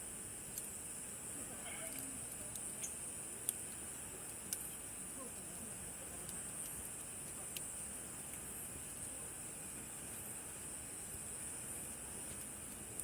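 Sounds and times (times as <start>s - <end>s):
campfire popping: 0.0s - 13.0s
insect chorus: 0.0s - 13.0s.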